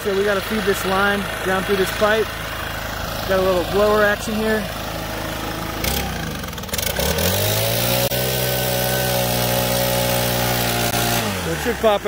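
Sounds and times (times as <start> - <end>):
gas leaf blower running: 0.0 - 12.0.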